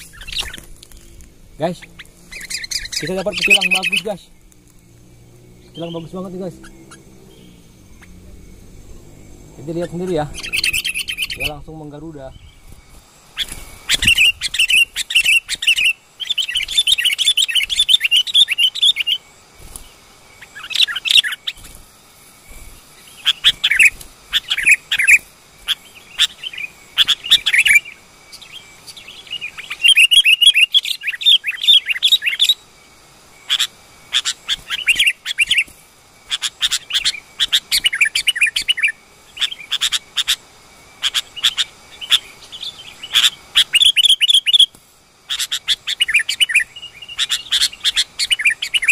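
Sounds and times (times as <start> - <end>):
bird chattering chirps: 0.0 - 19.2, 20.4 - 21.8, 22.5 - 32.6, 33.4 - 48.9.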